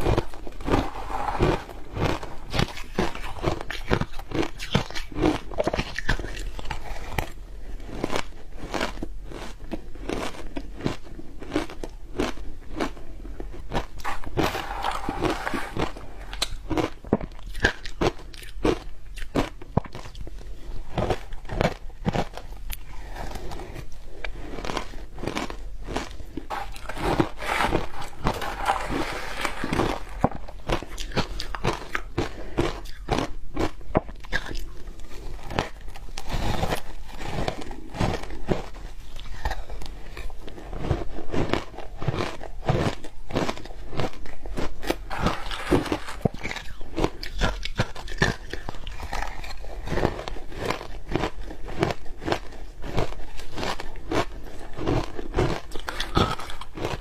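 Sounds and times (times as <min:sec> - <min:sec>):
shaved ice crunching when chewed: 0:00.0 - 0:57.0.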